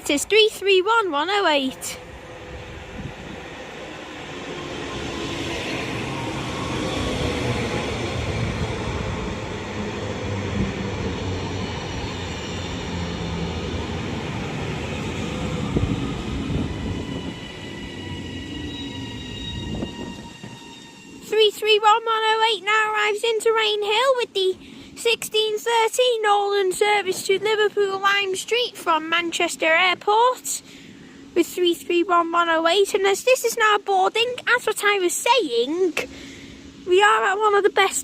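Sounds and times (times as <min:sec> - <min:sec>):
high-pitched train whine: 0:00.0 - 0:38.0
train wheel and motor rumble: 0:00.0 - 0:38.0.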